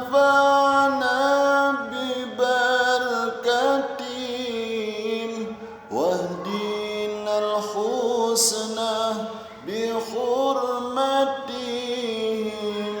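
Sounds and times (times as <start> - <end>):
person singing ornamented notes: 0.0 - 13.0.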